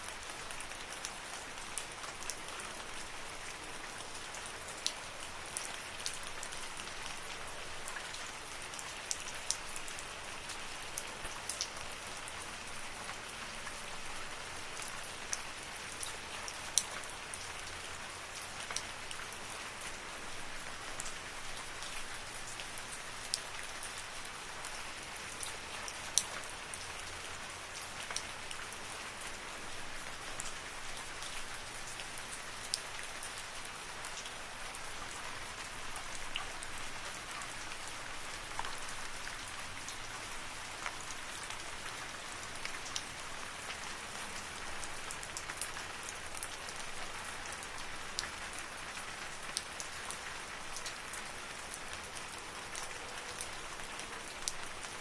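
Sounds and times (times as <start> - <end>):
steady rain in a forest: 0.0 - 55.0.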